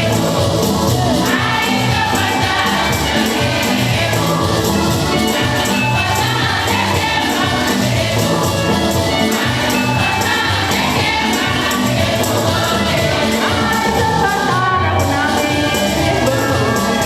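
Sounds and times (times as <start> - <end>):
congregation singing a hymn: 0.0 - 17.0
instrumental backing: 0.0 - 17.0
steady percussion beat: 0.0 - 17.0.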